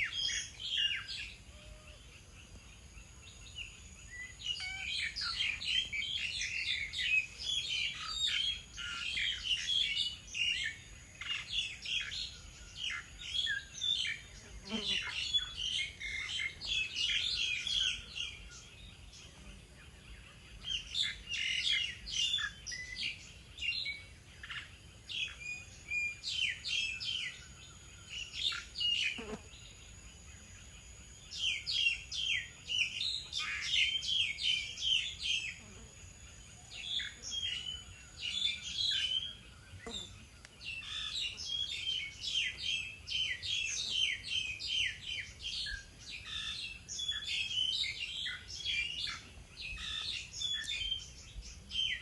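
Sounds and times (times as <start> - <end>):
small songbirds chirping: 0.0 - 52.0.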